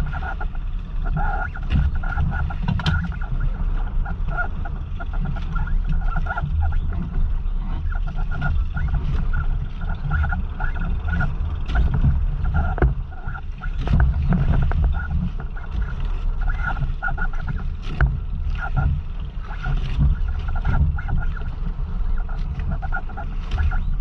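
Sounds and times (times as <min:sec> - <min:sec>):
boat creaking: 0:00.0 - 0:24.0
wind and waves rumble: 0:00.0 - 0:24.0.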